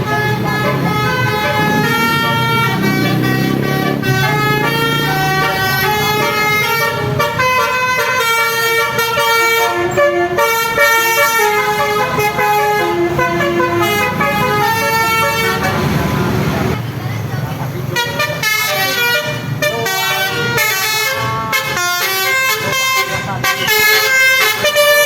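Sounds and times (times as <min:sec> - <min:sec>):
musical air horn playing a tune: 0:00.0 - 0:16.0, 0:18.0 - 0:25.0
bus engine rumble: 0:00.0 - 0:25.0.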